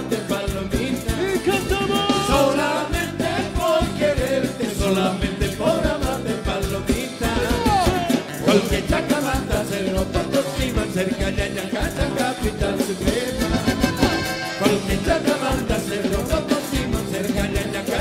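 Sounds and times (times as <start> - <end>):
band playing live: 0.0 - 18.0
person singing: 0.0 - 18.0
steady drum beat: 0.0 - 18.0.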